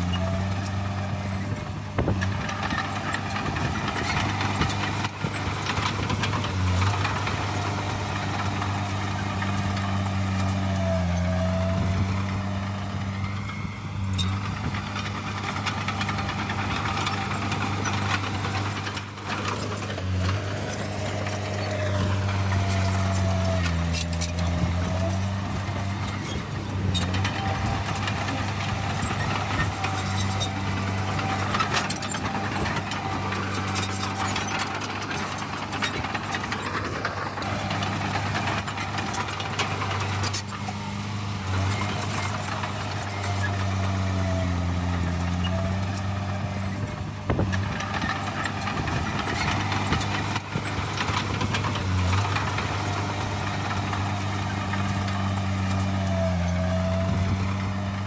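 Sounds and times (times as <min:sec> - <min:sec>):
diesel engine of heavy machine: 0:00.0 - 0:58.0.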